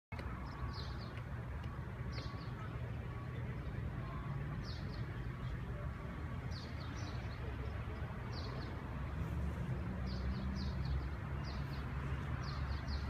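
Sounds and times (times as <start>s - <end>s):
distant traffic rumble: 0.1s - 13.0s.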